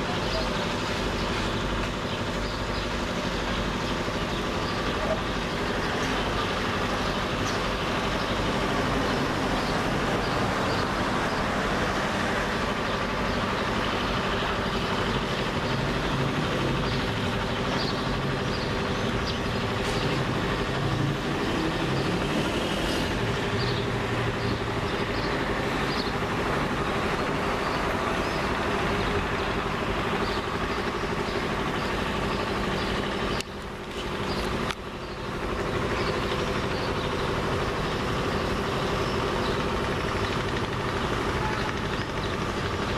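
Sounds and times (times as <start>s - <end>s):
engine-like hum: 0.0s - 42.9s.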